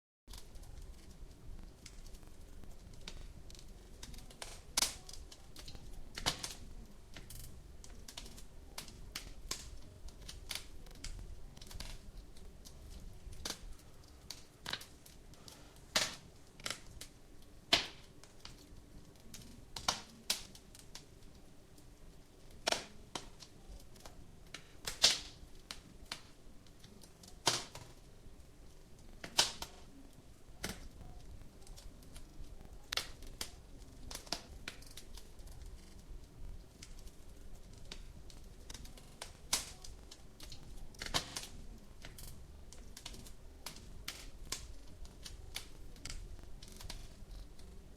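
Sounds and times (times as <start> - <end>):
wood fire crackling: 0.3 - 47.9.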